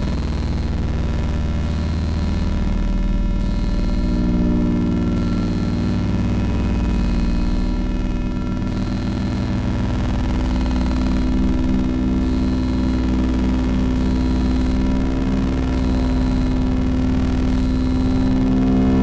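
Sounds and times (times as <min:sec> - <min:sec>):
buzzing synthesizer drone: 0:00.0 - 0:19.0
high electronic tone: 0:00.0 - 0:19.0
low throbbing pulse: 0:00.0 - 0:19.0.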